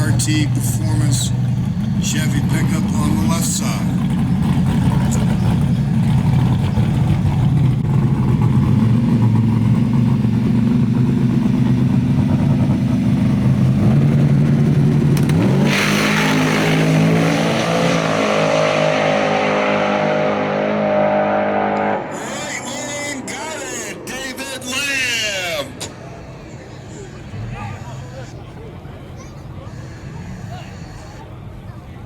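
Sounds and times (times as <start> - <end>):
truck engines revving loudly: 0.0 - 32.0.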